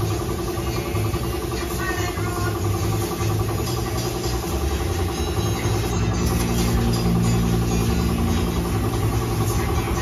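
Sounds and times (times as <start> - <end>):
air compressor running: 0.0 - 10.0
spray gun air hissing: 0.0 - 10.0.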